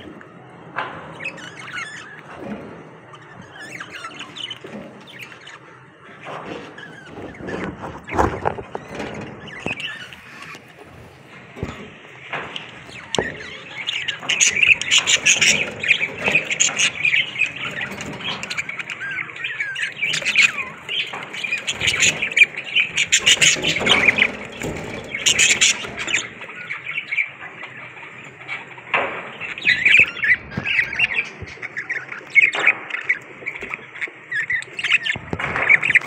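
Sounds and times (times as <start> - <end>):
budgerigars chattering: 0.0 - 36.0.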